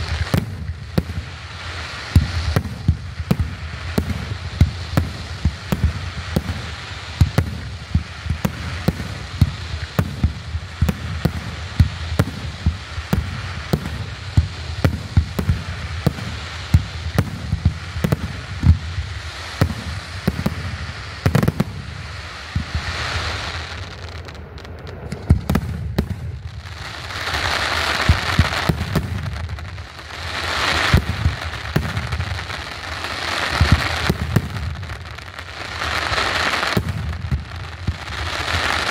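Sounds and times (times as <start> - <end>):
hissing crackle of fireworks: 0.0 - 38.9.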